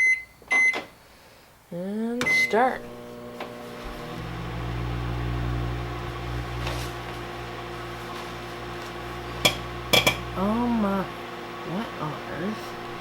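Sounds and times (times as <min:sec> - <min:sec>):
microwave oven humming: 0:02.2 - 0:13.0.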